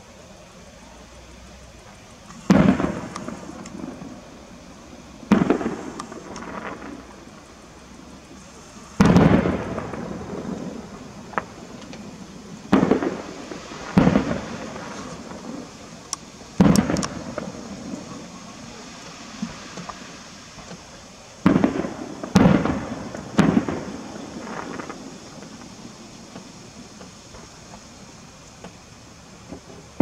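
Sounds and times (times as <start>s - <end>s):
firework shells booming: 2.2s - 30.0s.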